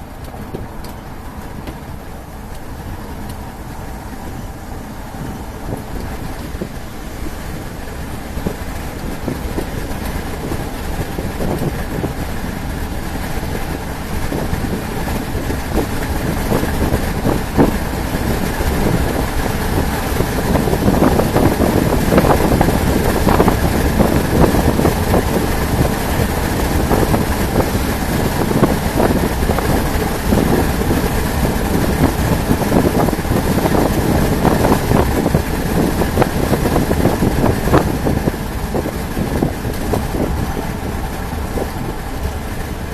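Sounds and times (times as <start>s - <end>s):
vehicle running noise: 0.0s - 42.9s.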